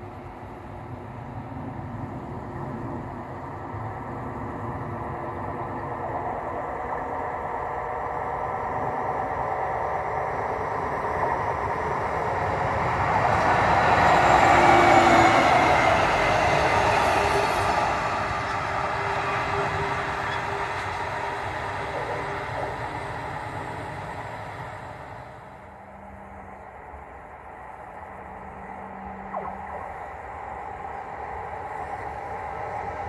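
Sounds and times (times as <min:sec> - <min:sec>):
diesel locomotive passing by: 0:00.0 - 0:33.0.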